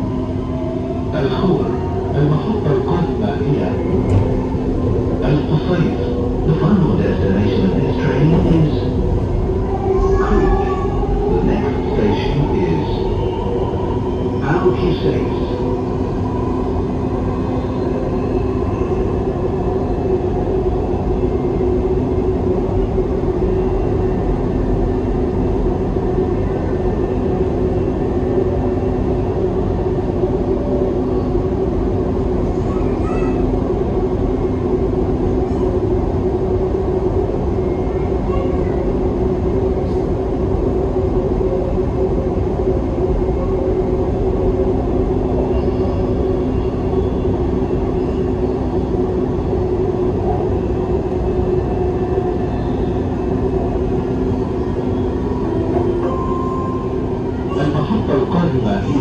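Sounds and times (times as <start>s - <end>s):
constant low hum: 0.0s - 59.0s
train wheels rumbling on track: 0.0s - 59.0s.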